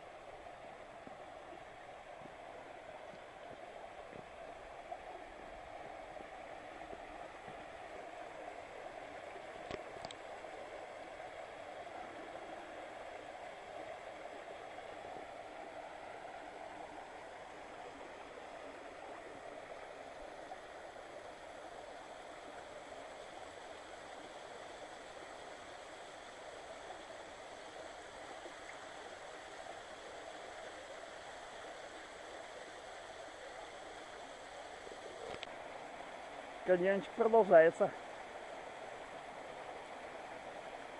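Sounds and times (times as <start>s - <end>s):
stream flowing over rock: 0.0s - 40.9s.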